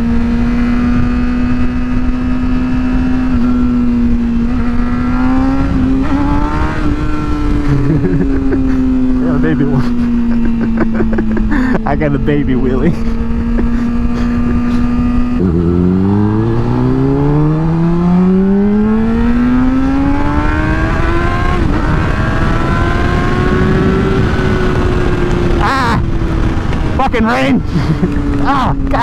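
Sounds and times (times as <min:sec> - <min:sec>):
motorcycle engine accelerating: 0:00.0 - 0:29.0
wind rushing over microphone: 0:00.0 - 0:29.0.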